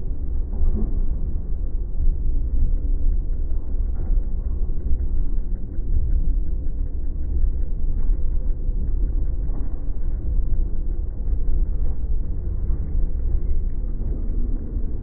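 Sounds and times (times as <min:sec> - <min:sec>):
cable car rumbling on rails: 0:00.0 - 0:15.0.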